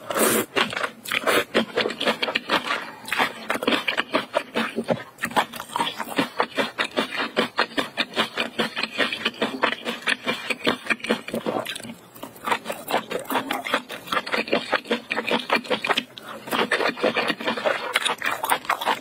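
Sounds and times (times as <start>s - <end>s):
wet chewing with mouth clicks: 0.0s - 19.0s.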